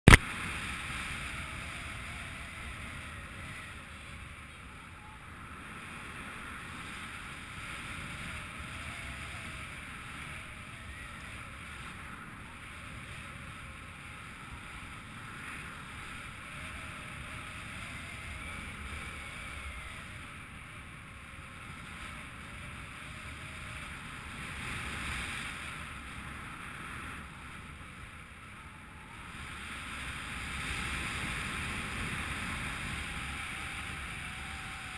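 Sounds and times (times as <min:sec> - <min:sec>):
wind rushing over microphone: 0:00.1 - 0:34.9.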